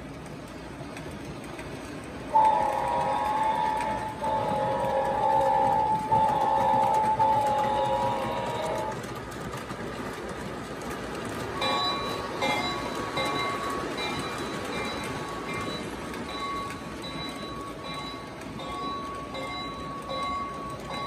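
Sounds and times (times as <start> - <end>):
model train wheels rumbling: 0.0 - 21.0.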